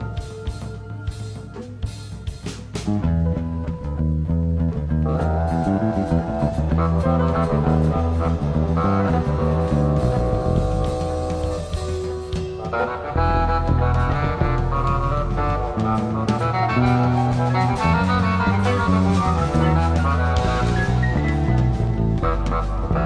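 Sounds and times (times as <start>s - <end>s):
rock music with guitar: 0.0s - 23.0s.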